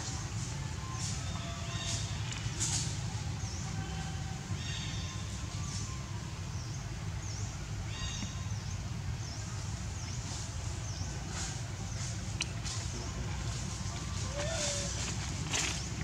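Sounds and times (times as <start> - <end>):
birds chirping: 0.0 - 16.0
steady low rumble: 2.0 - 16.0.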